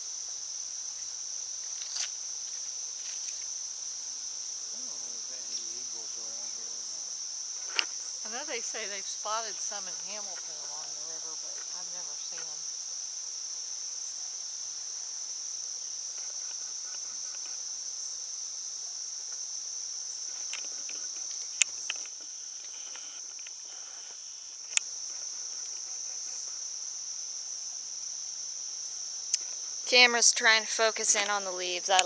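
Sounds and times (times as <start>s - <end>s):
insect chorus shrilling: 0.0s - 32.0s.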